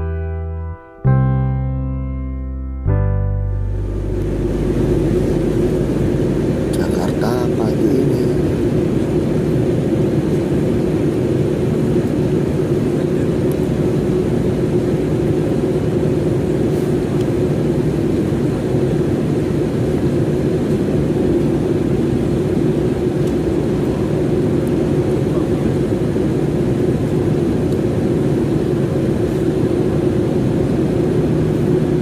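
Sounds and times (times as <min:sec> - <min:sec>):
airliner cabin drone: 0:02.4 - 0:32.0.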